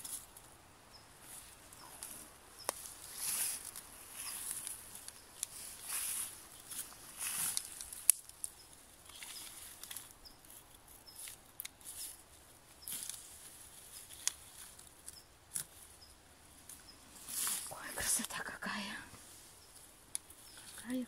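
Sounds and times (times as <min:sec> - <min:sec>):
shrubs rustling: 0:00.0 - 0:21.0.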